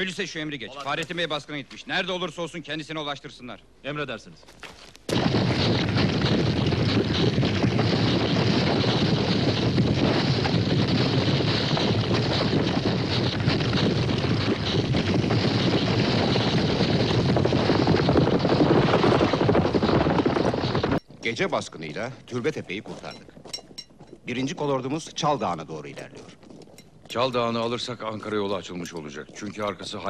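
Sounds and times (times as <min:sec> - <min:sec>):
horses galloping: 0:05.1 - 0:30.0.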